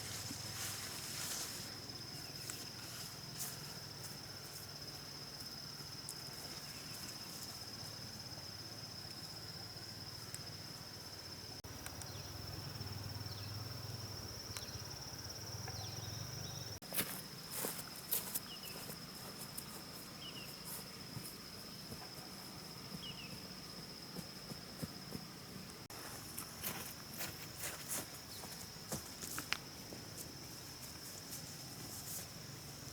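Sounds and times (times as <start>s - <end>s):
insects buzzing: 0.0s - 32.9s.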